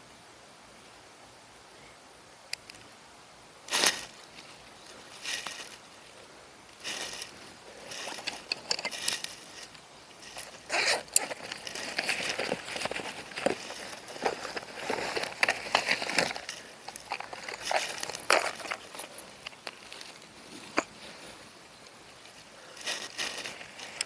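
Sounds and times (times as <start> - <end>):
fishing gear and bag rustling: 3.7 - 6.1, 6.7 - 24.0.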